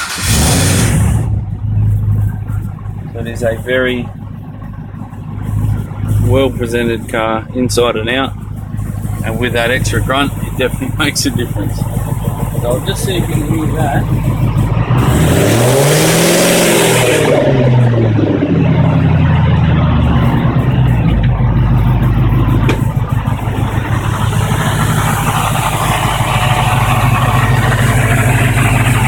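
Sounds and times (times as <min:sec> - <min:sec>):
car engine revving then idling: 0:00.0 - 0:29.0.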